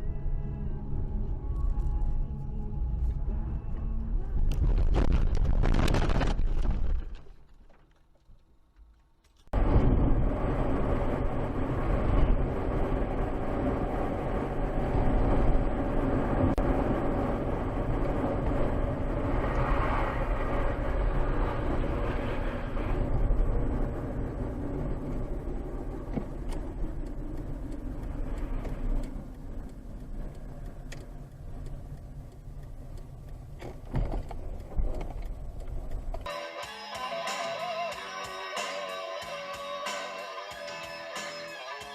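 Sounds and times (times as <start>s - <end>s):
car engine and tyre noise: 0.0s - 41.9s.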